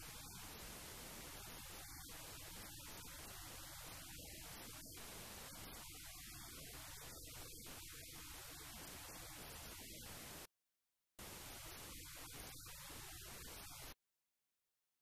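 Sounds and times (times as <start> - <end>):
faint hiss: 0.0 - 10.5, 11.2 - 14.0.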